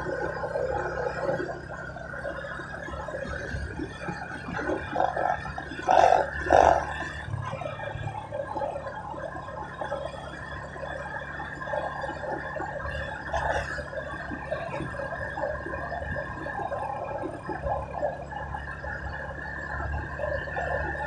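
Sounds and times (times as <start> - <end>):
motorbike engine hum: 0.0 - 21.0.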